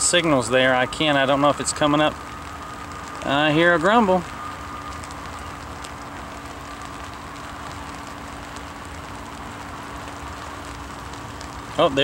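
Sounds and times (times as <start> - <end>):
rain drops ticking: 0.0 - 12.0
rain hissing: 0.0 - 12.0.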